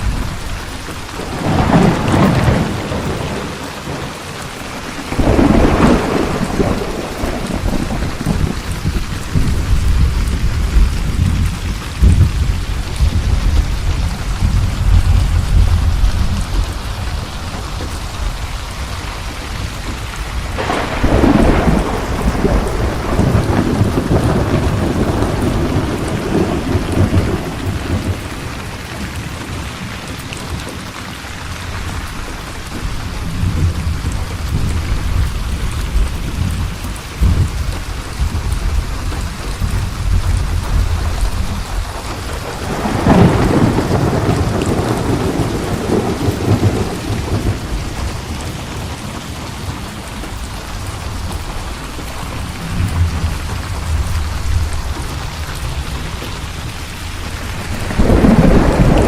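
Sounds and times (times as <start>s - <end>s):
rolling thunder: 0.0s - 30.8s, 31.5s - 59.0s
thunderclap: 0.0s - 30.8s, 32.5s - 59.0s
steady rain: 0.0s - 59.0s.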